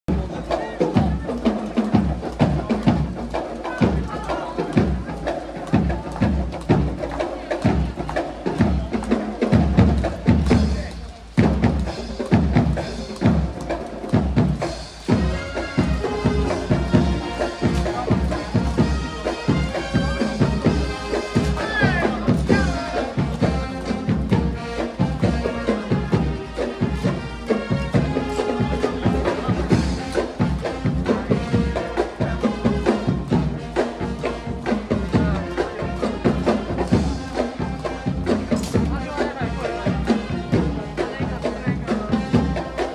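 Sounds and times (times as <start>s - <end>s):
drum beating steadily: 0.1s - 42.9s.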